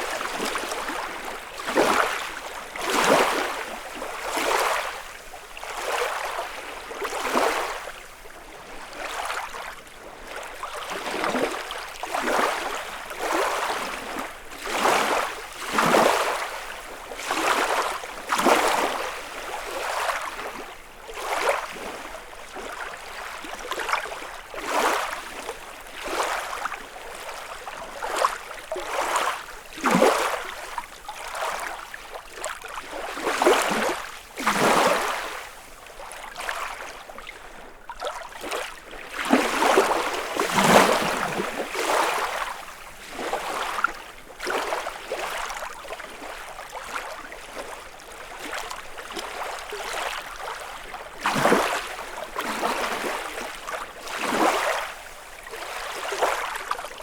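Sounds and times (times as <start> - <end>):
lake waves lapping on shore: 0.0 - 57.0.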